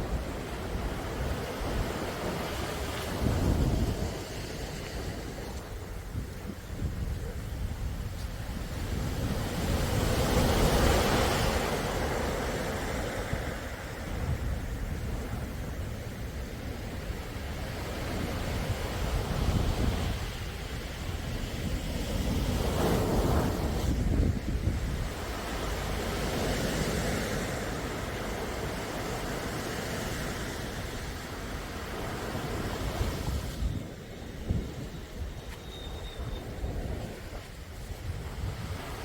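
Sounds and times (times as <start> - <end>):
sea waves washing in: 0.0 - 39.0
wind rumble on microphone: 0.0 - 39.0.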